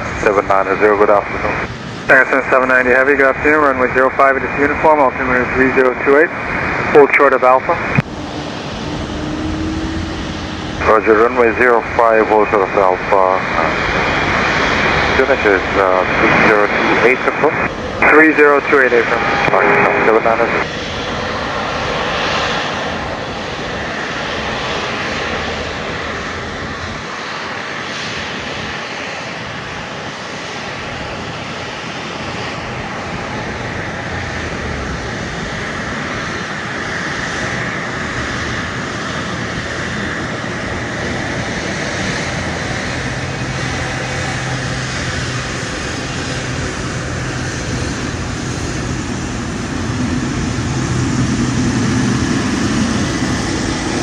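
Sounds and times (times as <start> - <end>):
high jet whine: 0.0 - 54.0
jet engines rushing: 0.0 - 54.0.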